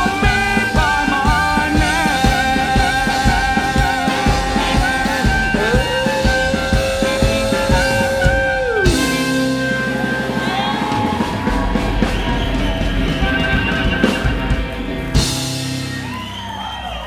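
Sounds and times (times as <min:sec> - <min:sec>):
drum hits: 0:00.0 - 0:16.2
electric guitar note sliding down: 0:00.0 - 0:16.3
live rock band playing: 0:00.0 - 0:17.0.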